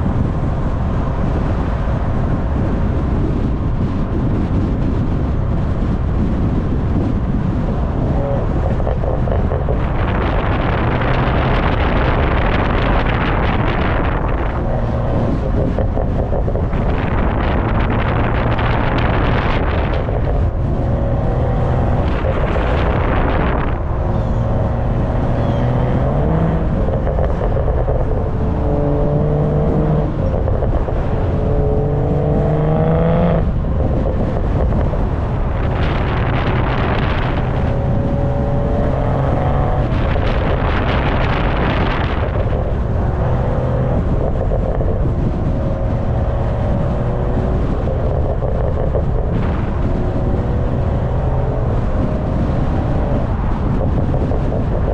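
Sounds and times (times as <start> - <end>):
car exhaust revving: 0.0 - 54.9
wind buffeting microphone: 0.0 - 54.9.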